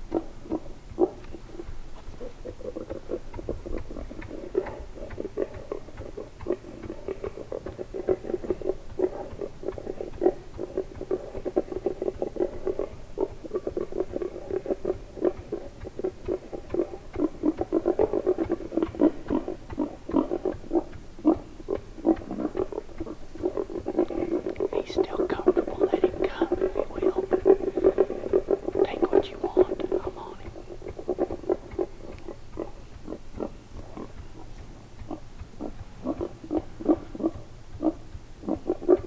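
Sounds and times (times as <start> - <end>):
boar grunting: 0.1 - 39.0.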